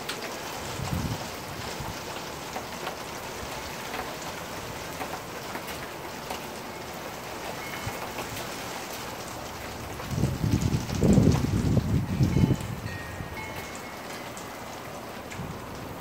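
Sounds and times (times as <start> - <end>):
heavy rain: 0.0 - 16.0
raindrops ticking nearby: 0.0 - 16.0.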